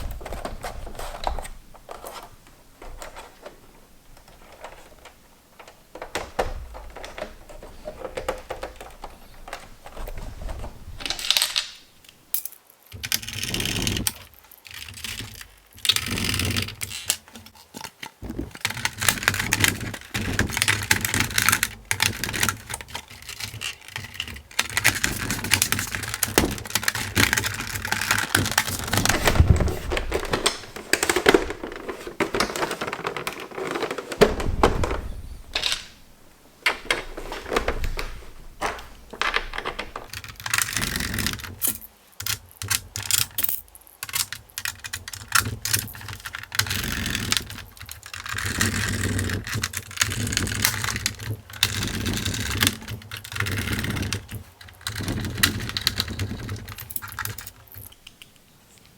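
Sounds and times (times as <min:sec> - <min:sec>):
plastic scraping and rubbing: 0:00.0 - 0:11.9, 0:13.0 - 0:41.6, 0:44.4 - 0:58.3
plastic parts clicking and rattling: 0:00.0 - 0:58.9.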